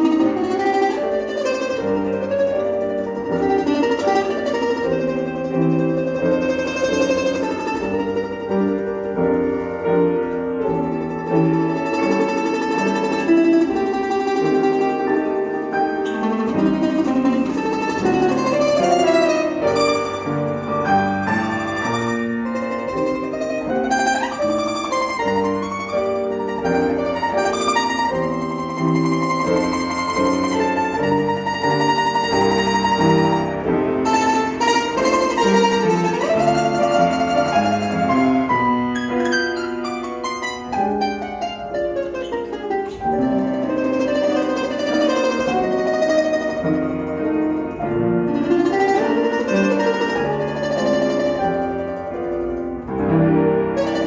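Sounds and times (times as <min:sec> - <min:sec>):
plucked string instruments playing: 0:00.0 - 0:54.0.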